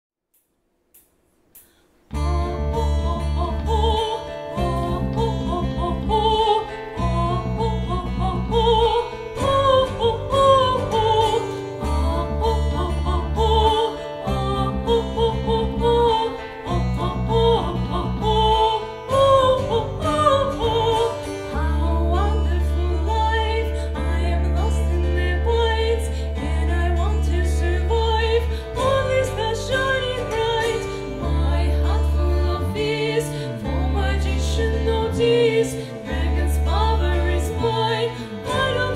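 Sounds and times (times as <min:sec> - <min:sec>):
low bass accompaniment: 0:02.1 - 0:38.9.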